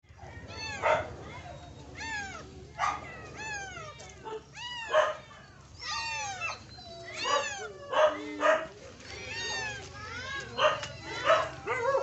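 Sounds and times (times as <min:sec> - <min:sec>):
cats meowing: 0:00.1 - 0:08.4, 0:09.1 - 0:11.6.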